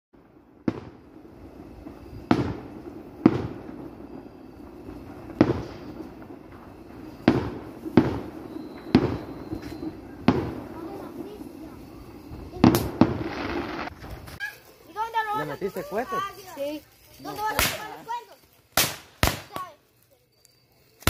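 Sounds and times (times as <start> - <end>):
fireworks bursting: 0.2 - 20.0.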